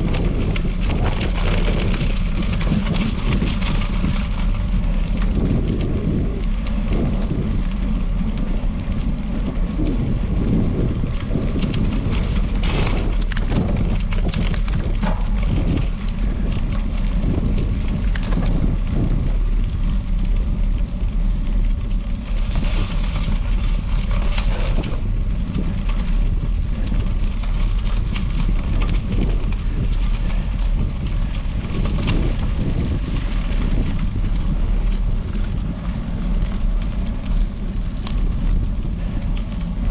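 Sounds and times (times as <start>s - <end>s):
crackles and rattles: 0.0s - 39.9s
tyre noise rushing: 0.0s - 39.9s
wind rumbling on microphone: 0.0s - 39.9s.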